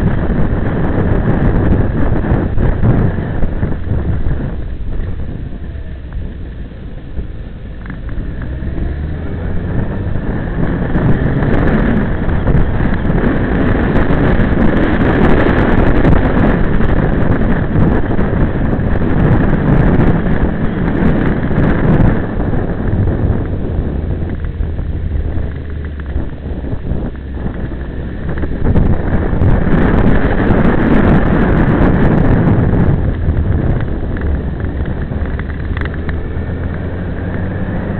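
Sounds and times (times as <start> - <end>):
motorcycle engine drone: 0.0 - 37.9
wind rushing over microphone: 0.0 - 37.9.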